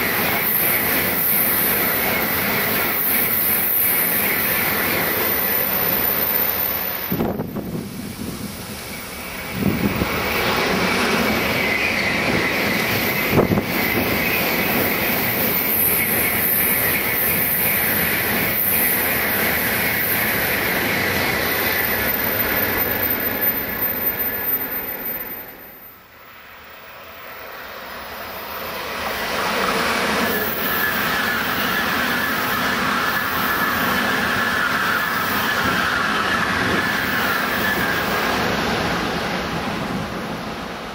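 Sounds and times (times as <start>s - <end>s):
high-speed train passing: 0.0s - 40.9s.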